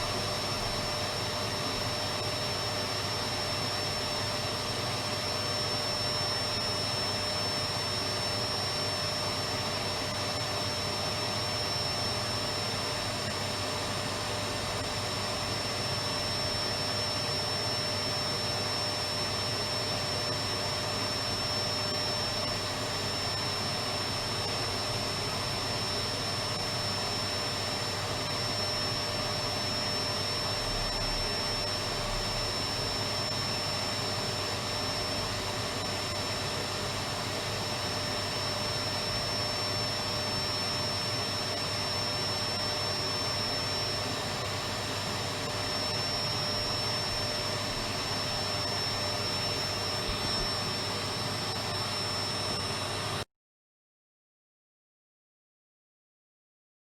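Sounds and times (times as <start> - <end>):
vacuum cleaner running: 0.0 - 53.3.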